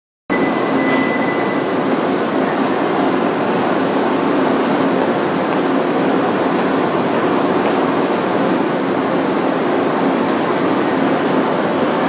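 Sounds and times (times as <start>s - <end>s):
train equipment hum and hiss: 0.3s - 12.0s.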